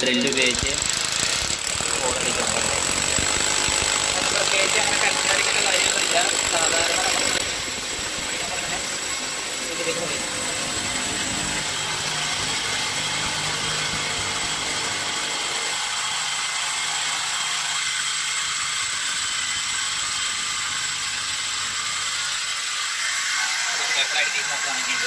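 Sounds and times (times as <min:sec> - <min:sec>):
electric drill boring into brick: 0:00.0 - 0:25.0.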